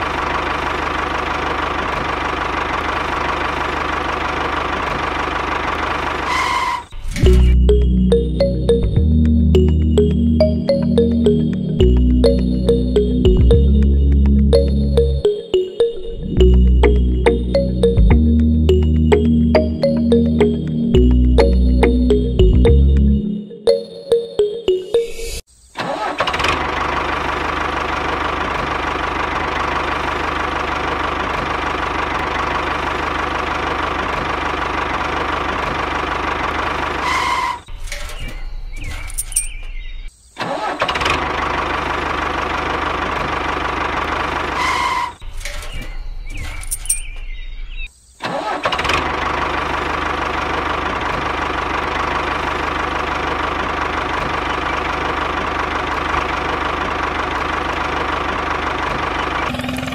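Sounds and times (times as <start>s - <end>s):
tractor engine running: 0.0s - 23.8s, 26.0s - 37.6s, 40.6s - 45.7s, 48.4s - 59.9s.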